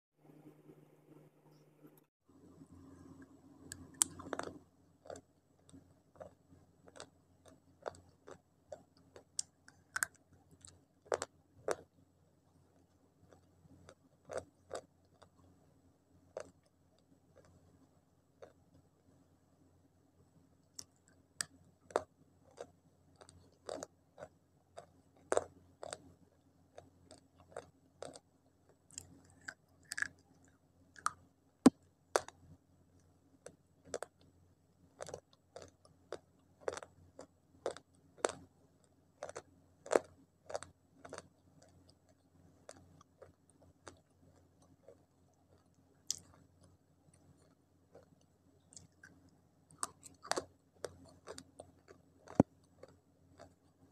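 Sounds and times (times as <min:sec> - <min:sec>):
chewing with sharp crunches: 0:03.0 - 0:11.9, 0:12.8 - 0:15.6, 0:16.3 - 0:17.8, 0:18.4 - 0:18.8, 0:20.7 - 0:32.5, 0:33.3 - 0:34.3, 0:34.9 - 0:53.9.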